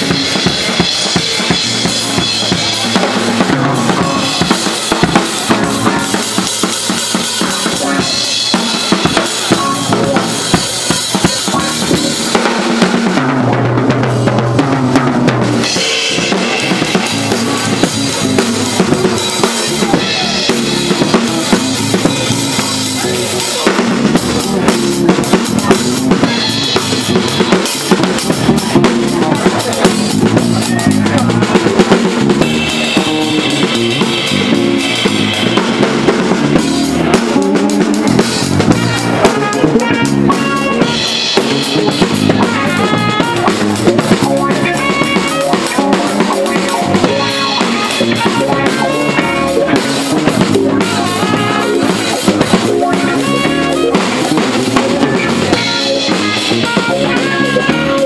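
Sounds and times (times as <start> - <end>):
drum kit groove: 0.0 - 58.0
jazz-funk band playing: 0.0 - 58.0.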